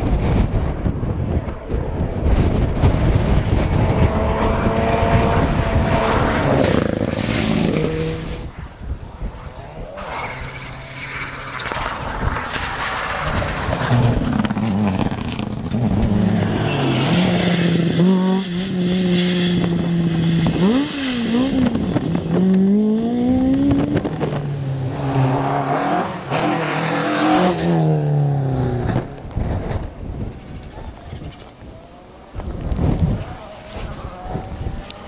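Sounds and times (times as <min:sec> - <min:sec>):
rally car engine revving: 0:00.0 - 0:35.0
tyre and road noise: 0:00.0 - 0:35.0.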